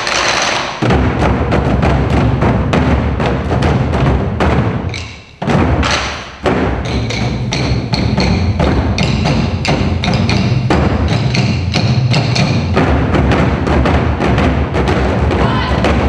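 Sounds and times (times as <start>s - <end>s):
barrel drums beaten with sticks: 0.0s - 16.0s.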